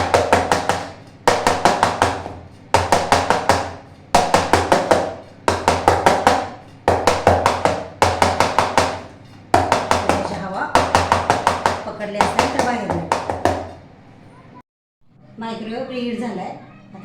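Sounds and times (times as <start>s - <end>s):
cake tin knocking on counter: 0.0s - 13.8s.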